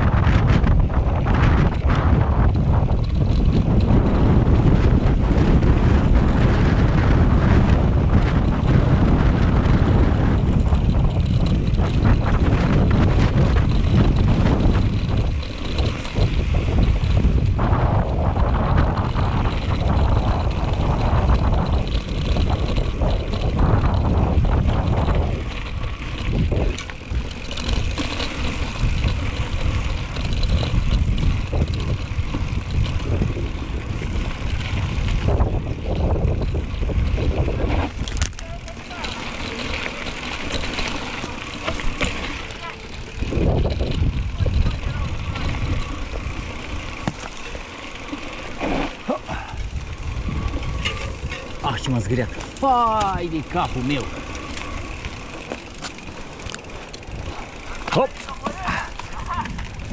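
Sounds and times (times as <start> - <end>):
bike rattling over rough trail: 0.0 - 59.9
wind buffeting microphone: 0.0 - 59.9.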